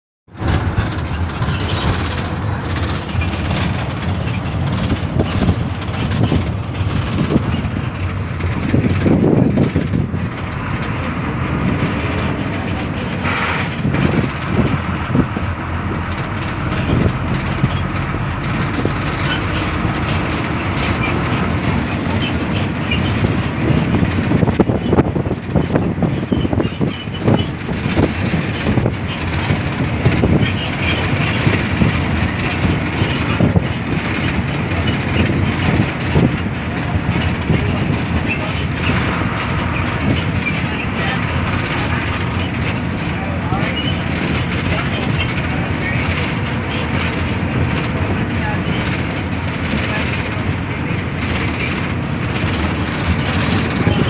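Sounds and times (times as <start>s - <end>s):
car road and engine rumble: 0.3s - 54.0s.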